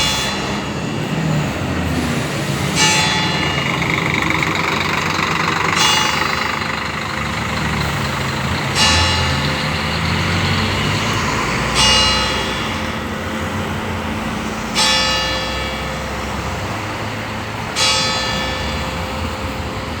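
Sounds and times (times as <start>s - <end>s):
road traffic rumble: 0.0s - 20.0s
church bell tolling: 2.6s - 20.0s.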